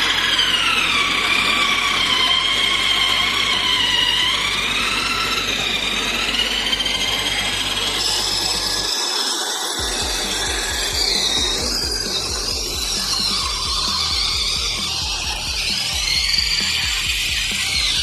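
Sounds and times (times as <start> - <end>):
drill-powered wood chipper whining: 0.0 - 18.0.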